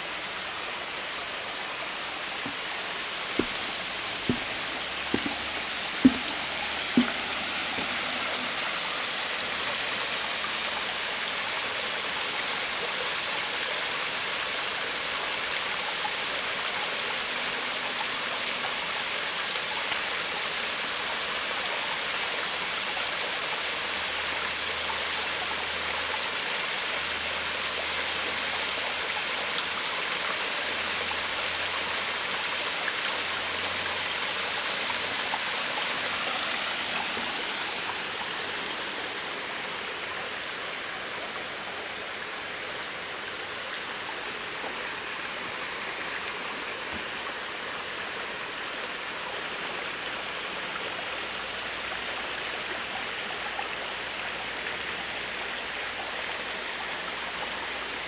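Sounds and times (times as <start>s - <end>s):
stream running over rocks: 0.0s - 58.0s
water cascading down rock: 0.0s - 58.0s.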